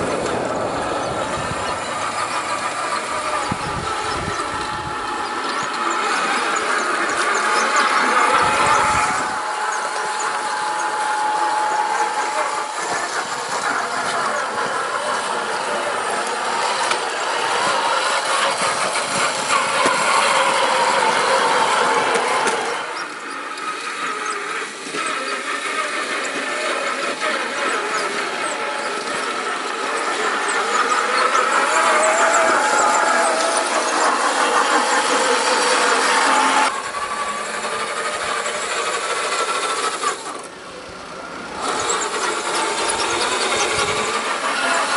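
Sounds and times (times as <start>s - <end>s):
drivetrain and tyres rough noise: 0.0s - 44.9s
toy car motor whining: 0.0s - 44.9s.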